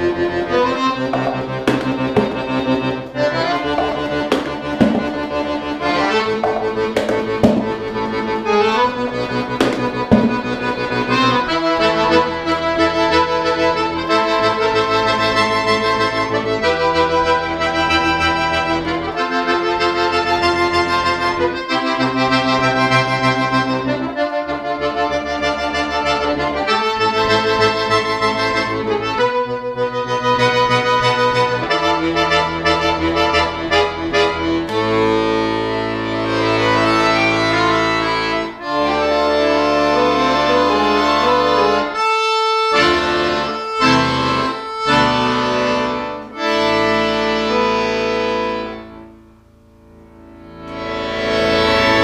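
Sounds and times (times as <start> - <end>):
button accordion playing chords: 0.0 - 52.0.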